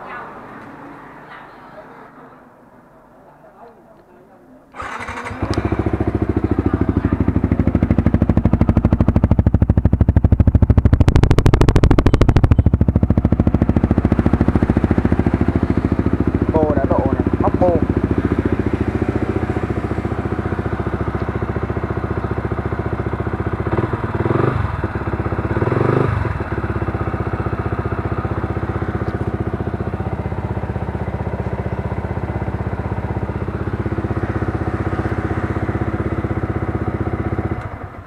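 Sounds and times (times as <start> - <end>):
motorcycle engine idling and revving: 4.8 - 38.0.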